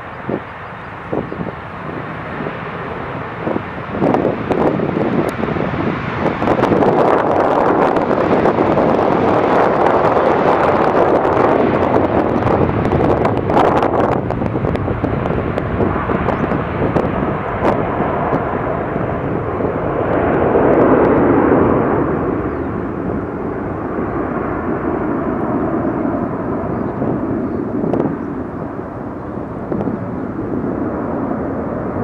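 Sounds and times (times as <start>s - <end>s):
jet engines at takeoff thrust: 0.0s - 32.0s.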